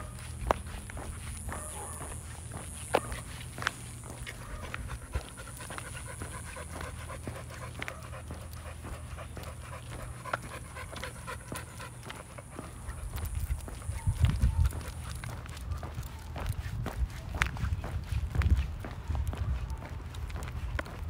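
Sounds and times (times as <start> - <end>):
dog panting: 0.0 - 21.0
footsteps on pavement: 0.0 - 21.0.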